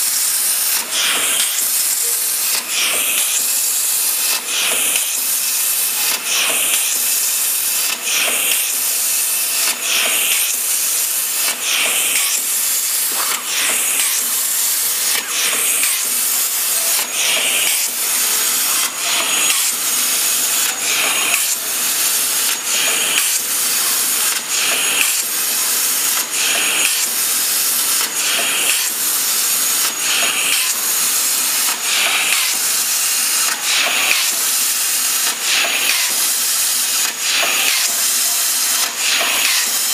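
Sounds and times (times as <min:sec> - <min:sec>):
plasma cutter arc hissing: 0:00.0 - 0:39.9.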